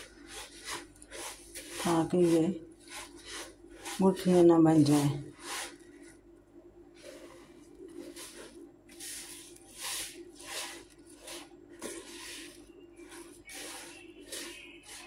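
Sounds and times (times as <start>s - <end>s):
spatula scraping sticky syrup: 0.0s - 6.2s, 6.9s - 15.0s.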